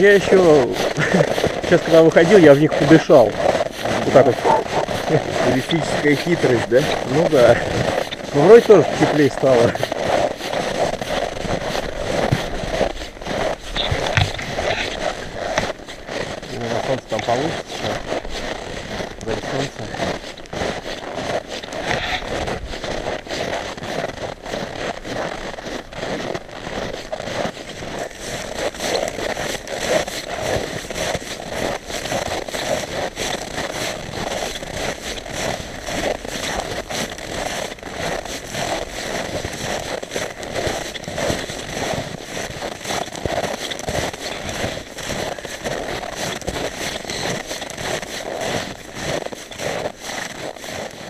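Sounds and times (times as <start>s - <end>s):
boots crunching on snow: 0.0s - 51.0s.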